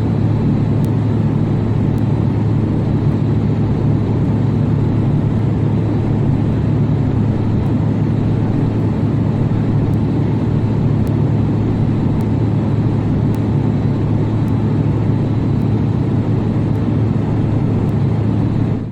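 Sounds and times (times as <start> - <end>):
airplane engine and airflow drone: 0.0 - 18.9.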